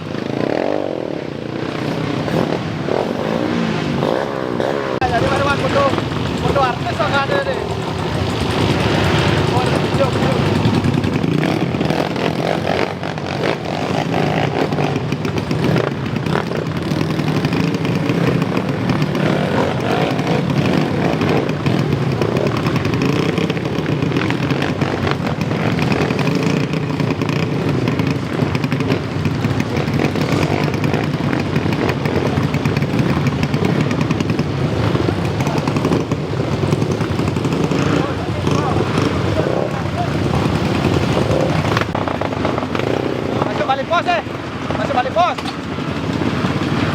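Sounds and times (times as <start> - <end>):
motocross engines revving: 0.0 - 46.9.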